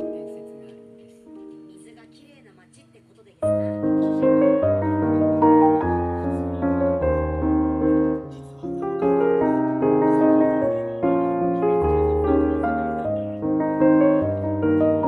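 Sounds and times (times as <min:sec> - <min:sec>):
gentle piano piece: 0:00.0 - 0:02.8, 0:03.4 - 0:15.0.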